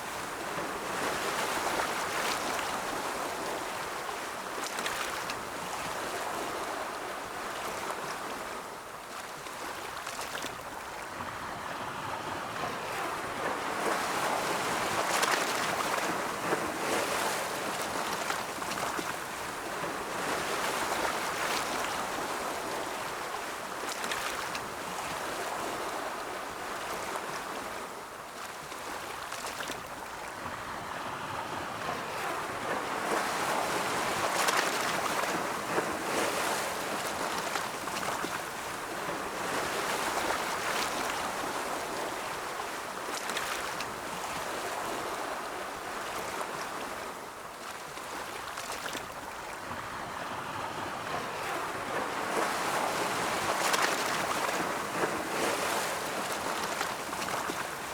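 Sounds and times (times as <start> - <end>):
ocean waves washing on shore: 0.0 - 57.9.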